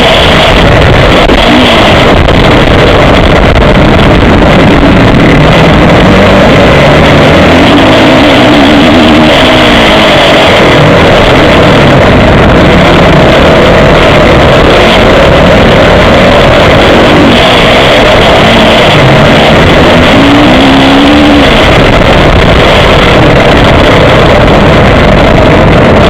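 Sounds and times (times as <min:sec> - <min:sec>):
distorted motocross engine revving: 0:00.0 - 0:26.0.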